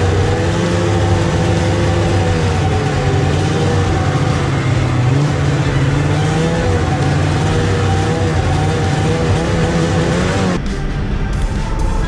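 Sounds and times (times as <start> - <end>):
snowmobile engine droning: 0.0 - 12.0.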